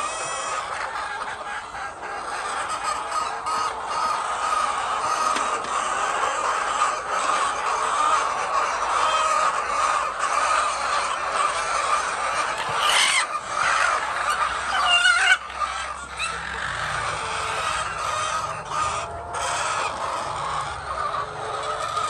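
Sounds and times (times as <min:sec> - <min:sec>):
hens clucking: 0:00.0 - 0:22.0
hens squawking: 0:00.0 - 0:22.0.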